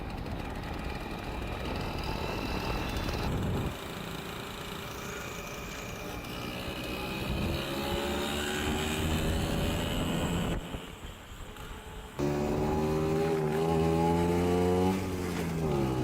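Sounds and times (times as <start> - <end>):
scooter engine accelerating: 0.0 - 16.0.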